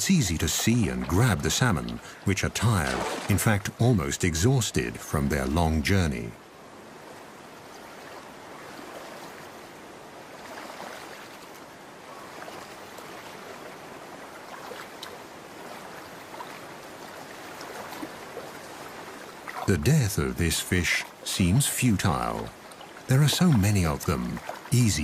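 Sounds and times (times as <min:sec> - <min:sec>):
stream water running: 0:00.0 - 0:25.0.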